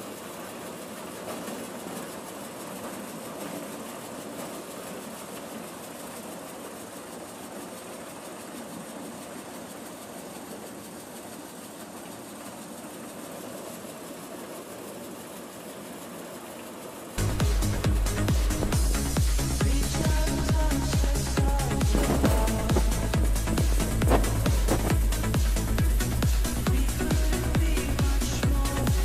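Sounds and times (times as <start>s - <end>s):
maize sheller running: 0.0s - 29.0s.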